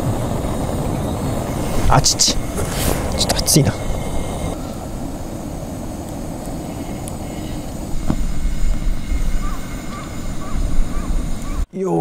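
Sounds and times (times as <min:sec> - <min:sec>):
gas stove burning: 0:00.0 - 0:11.6.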